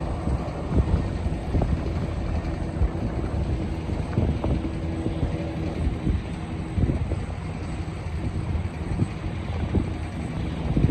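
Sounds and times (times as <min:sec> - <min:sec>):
jet aircraft rumble: 0:00.0 - 0:10.9.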